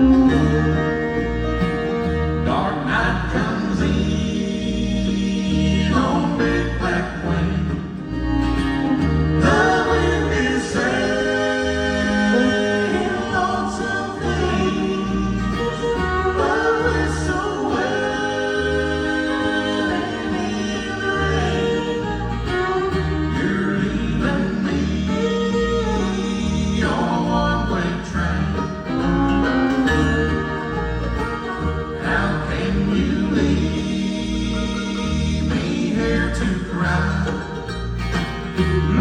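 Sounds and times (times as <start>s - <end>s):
bluegrass band playing: 0.0s - 39.0s
voices singing in harmony: 0.0s - 39.0s.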